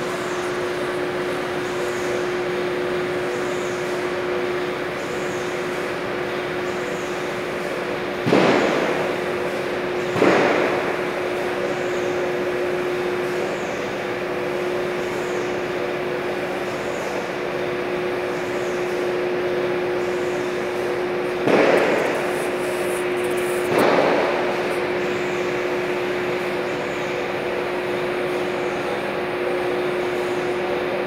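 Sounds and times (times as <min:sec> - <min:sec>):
factory machinery hum: 0:00.0 - 0:31.0.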